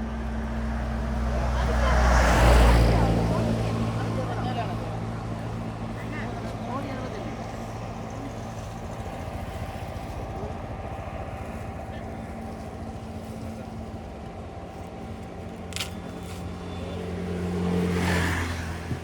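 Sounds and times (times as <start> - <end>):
vehicle passing on road: 0.0 - 13.9, 15.6 - 19.0
vehicle engine running: 0.0 - 19.0.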